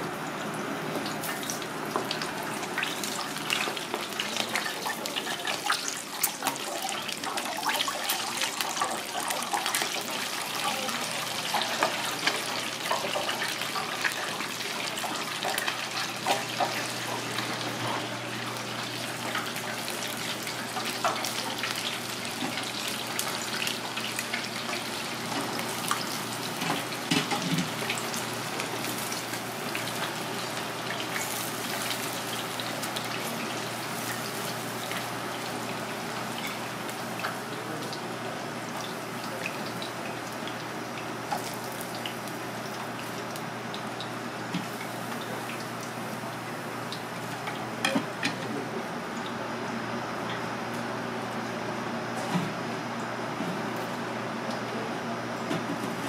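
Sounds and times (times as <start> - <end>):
fish deep-frying in oil: 0.0 - 56.0.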